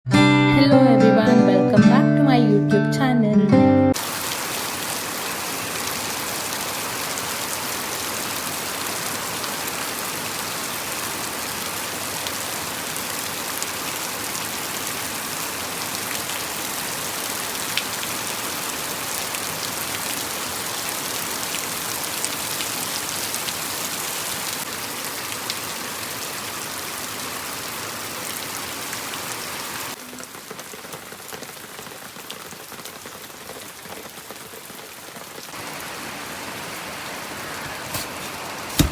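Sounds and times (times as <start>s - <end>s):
steady rain falling: 4.0s - 38.9s.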